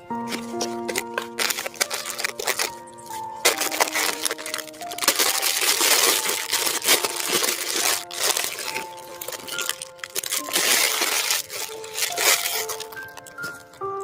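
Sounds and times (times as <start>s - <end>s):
background music: 0.0s - 14.0s
packaging crackling: 0.1s - 14.0s.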